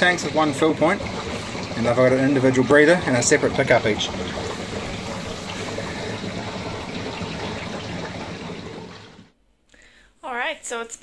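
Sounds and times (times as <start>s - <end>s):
water running into tanks: 0.0s - 9.9s.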